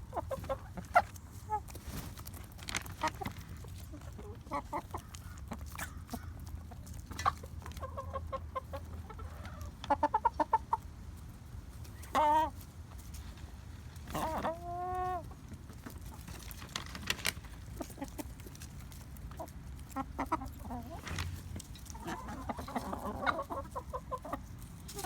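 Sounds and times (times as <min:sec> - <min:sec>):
hen clucking: 0:00.0 - 0:02.2, 0:02.8 - 0:16.3, 0:17.4 - 0:25.0.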